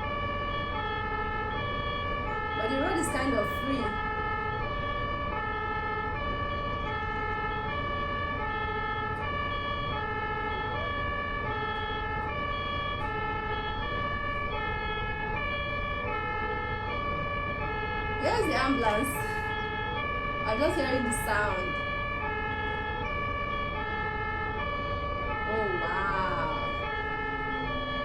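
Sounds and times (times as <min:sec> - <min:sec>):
two-tone ambulance siren: 0:00.0 - 0:28.0.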